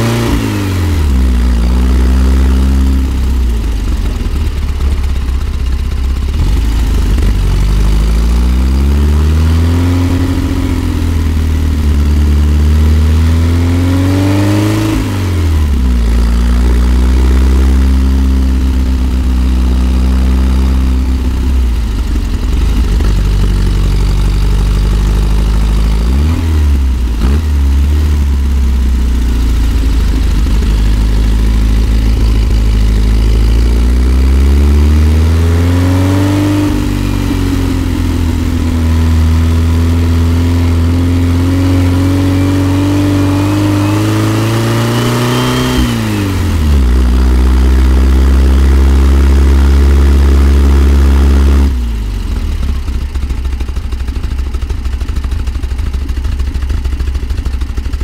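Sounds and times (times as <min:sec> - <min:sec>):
van engine pulling uphill: 0:00.0 - 0:58.0.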